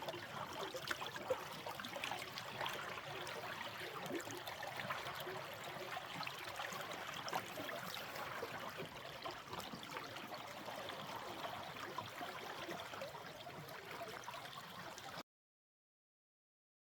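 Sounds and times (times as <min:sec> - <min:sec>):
stream trickling over stones: 0:00.0 - 0:15.2.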